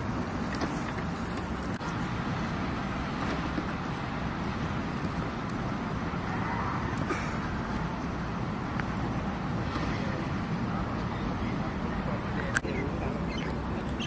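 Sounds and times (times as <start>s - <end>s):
low rumble with hiss: 0.0s - 14.0s.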